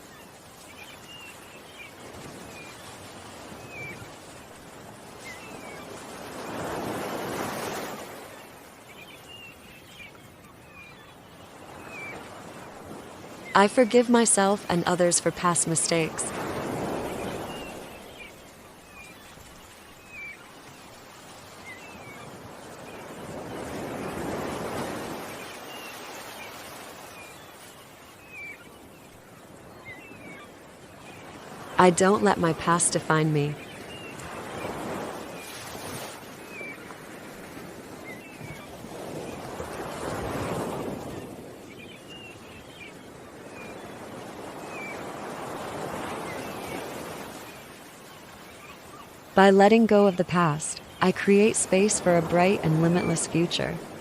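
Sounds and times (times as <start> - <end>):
small birds chirping: 0.0 - 13.5, 14.3 - 54.0
ocean waves washing ashore: 0.0 - 54.0.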